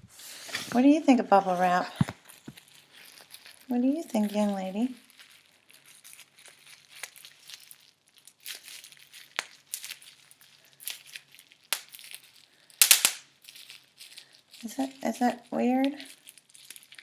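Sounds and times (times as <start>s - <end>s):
bubble wrap crinkling: 0.1s - 17.0s
bubble wrap snapping: 0.3s - 17.0s.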